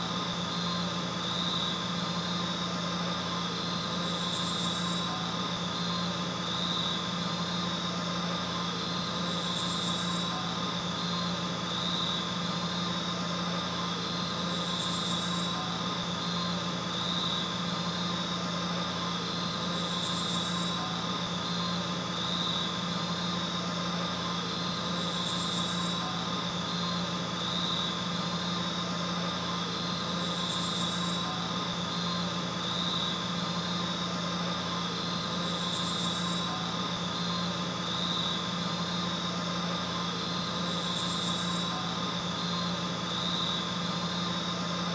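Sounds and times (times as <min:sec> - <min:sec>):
electrical hum with hiss: 0:00.0 - 0:44.9.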